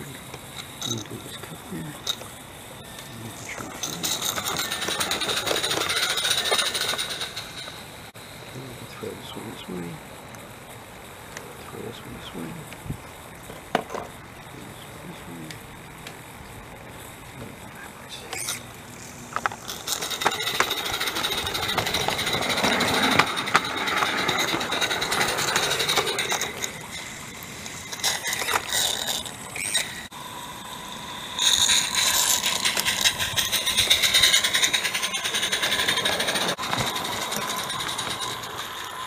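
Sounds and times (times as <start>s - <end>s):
high-pitched squeal: 0.0s - 10.0s, 17.7s - 39.0s
steam locomotive hissing and ticking: 0.0s - 39.0s.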